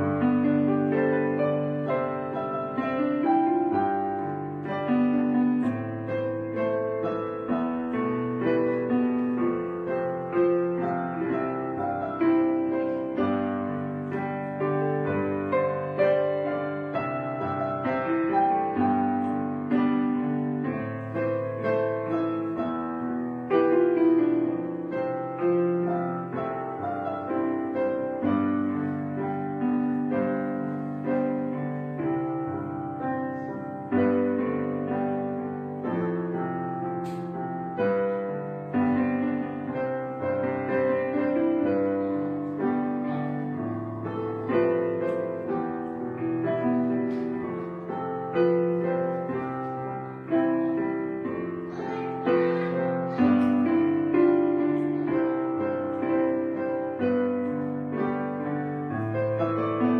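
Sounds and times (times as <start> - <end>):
slow piano music: 0.0 - 59.9.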